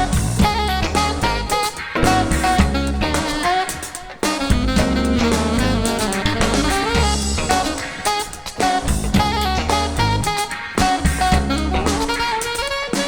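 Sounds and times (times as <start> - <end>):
bass: 0.0 - 12.4
drum kit: 0.0 - 13.0
saxophone lead: 0.0 - 13.0.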